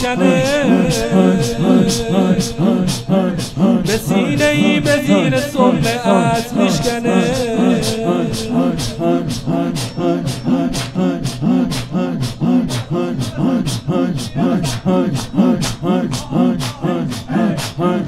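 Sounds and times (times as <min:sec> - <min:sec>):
chanted vocal line: 0:00.0 - 0:18.0
rhythmic chest slapping: 0:00.0 - 0:18.0.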